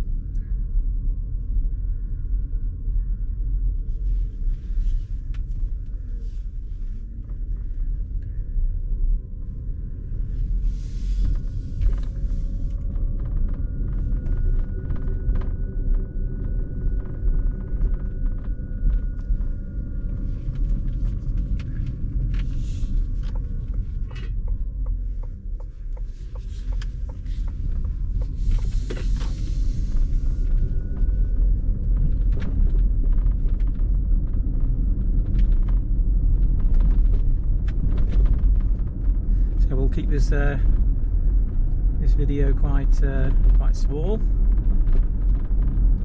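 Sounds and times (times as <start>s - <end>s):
faint whining tones: 0.0s - 46.0s
road rumble inside car: 0.0s - 46.0s.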